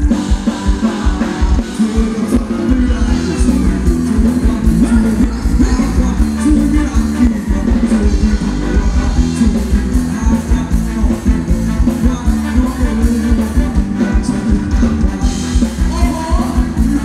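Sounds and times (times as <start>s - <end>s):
live band dance music: 0.0s - 17.0s.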